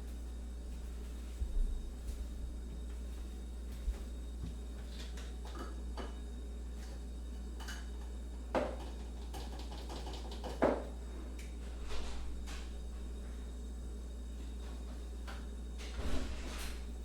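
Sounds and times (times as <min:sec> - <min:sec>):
steady low hum: 0:00.0 - 0:09.6, 0:10.6 - 0:17.0.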